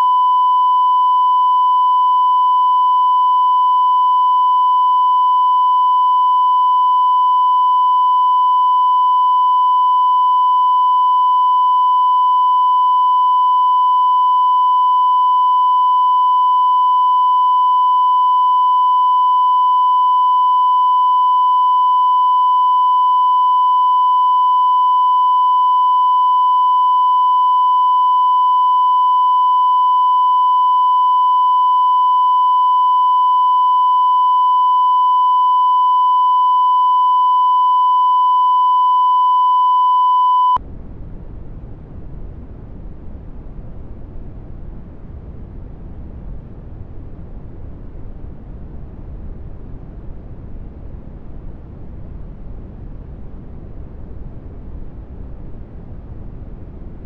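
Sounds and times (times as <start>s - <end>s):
steady sine test tone: 0.0s - 57.0s.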